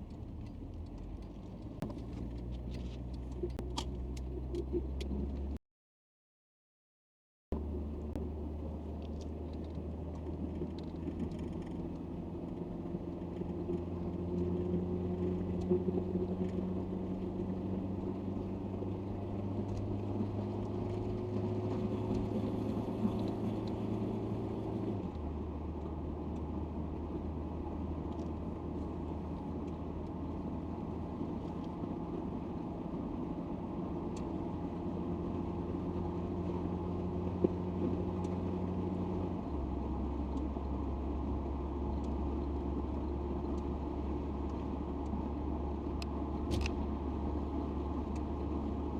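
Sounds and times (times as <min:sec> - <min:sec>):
car engine from inside cabin: 0:00.0 - 0:05.6, 0:07.6 - 0:48.9
road noise: 0:00.0 - 0:05.6, 0:07.6 - 0:48.9.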